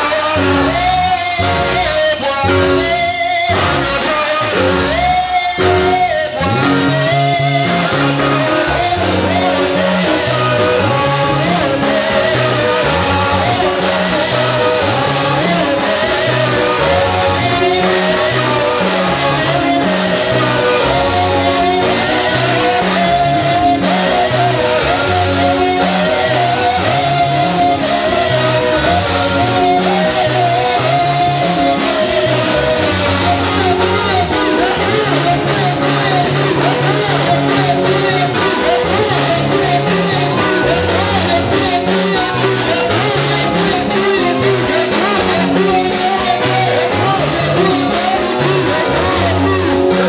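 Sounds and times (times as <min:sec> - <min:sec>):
electric guitar: 0:00.0 - 0:50.0
person singing: 0:00.0 - 0:50.0
walking bass line: 0:00.0 - 0:50.0.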